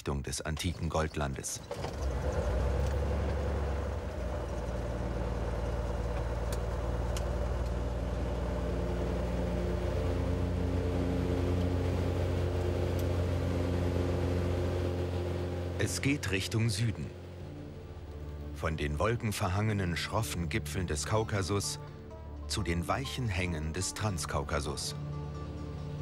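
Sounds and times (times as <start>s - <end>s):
light aircraft engine and propeller: 0.6s - 22.1s, 23.1s - 26.0s.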